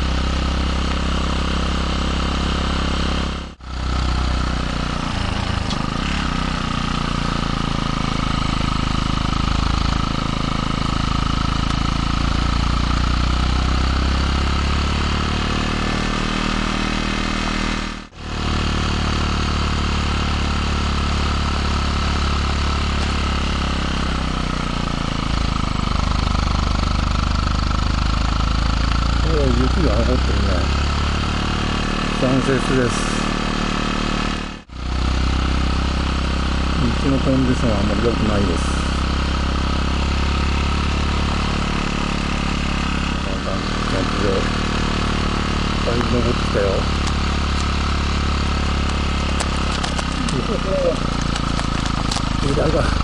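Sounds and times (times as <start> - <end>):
motorcycle exhaust running: 0.0 - 53.0.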